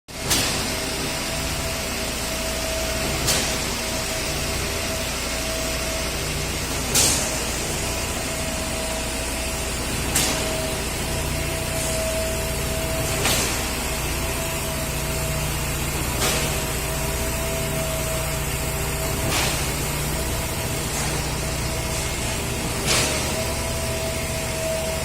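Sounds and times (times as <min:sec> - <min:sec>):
concrete pump running: 0:00.1 - 0:25.0.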